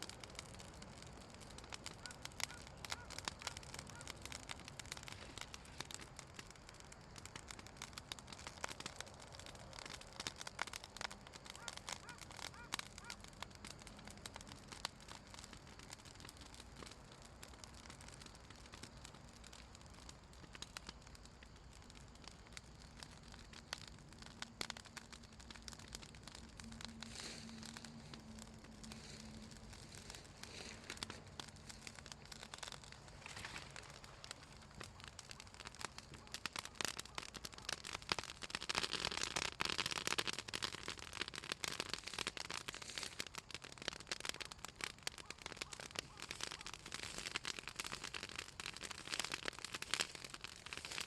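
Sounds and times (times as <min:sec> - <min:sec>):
bonfire crackling and popping: 0:00.0 - 0:51.0
fire hissing flare: 0:00.1 - 0:51.0.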